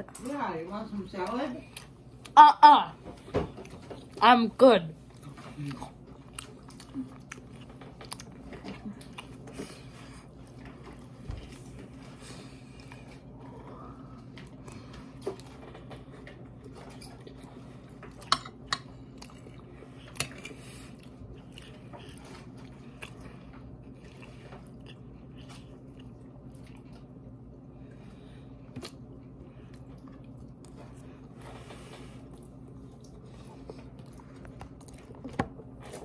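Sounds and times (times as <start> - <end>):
steady low hum: 0.0 - 36.0
quiet chewing: 5.1 - 36.0.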